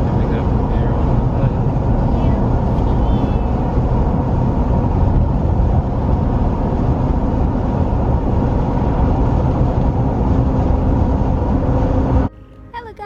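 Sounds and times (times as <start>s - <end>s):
road and wind noise inside car: 0.0s - 12.3s.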